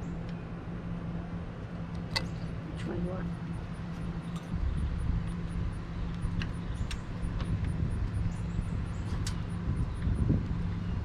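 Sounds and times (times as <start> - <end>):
low mechanical motor hum: 0.0 - 11.0.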